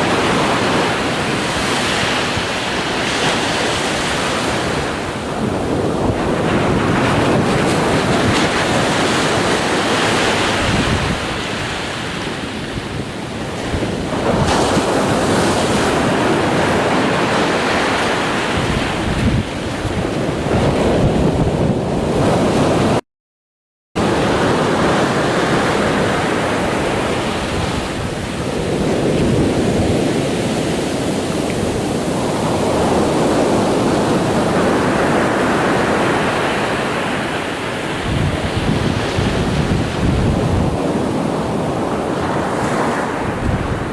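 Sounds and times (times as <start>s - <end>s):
ocean waves breaking: 0.0s - 23.0s, 24.0s - 43.9s.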